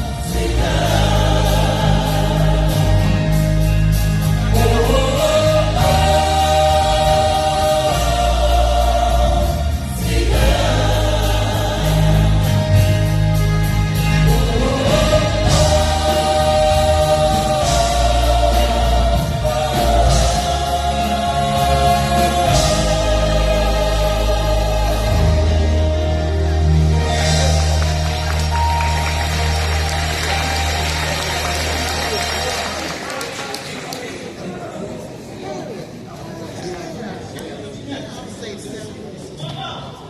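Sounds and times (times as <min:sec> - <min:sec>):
instrumental backing with bass: 0:00.0 - 0:33.1
gospel choir singing: 0:00.0 - 0:34.8.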